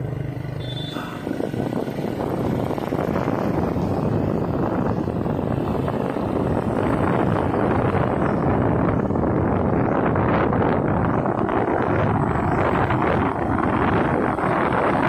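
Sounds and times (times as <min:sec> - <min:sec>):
vehicle running: 0:00.0 - 0:15.0
wind buffeting microphone: 0:01.2 - 0:15.0.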